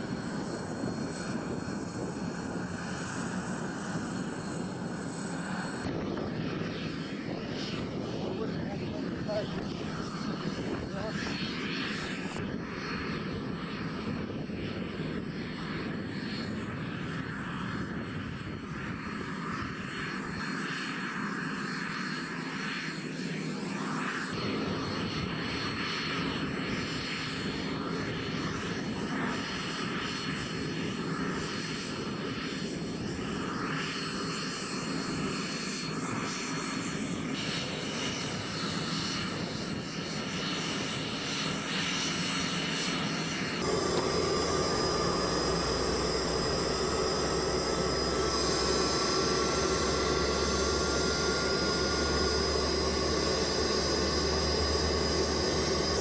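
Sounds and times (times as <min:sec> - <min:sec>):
helicopter engine and rotor: 0:00.0 - 0:56.0.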